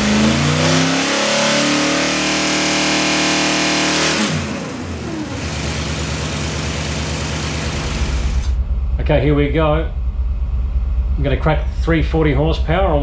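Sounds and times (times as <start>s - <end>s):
engine revving and idling: 0.0s - 13.0s.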